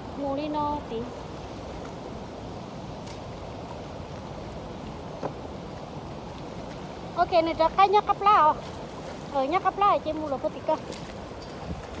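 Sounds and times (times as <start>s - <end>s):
choppy water: 0.0s - 12.0s
wind: 0.0s - 12.0s.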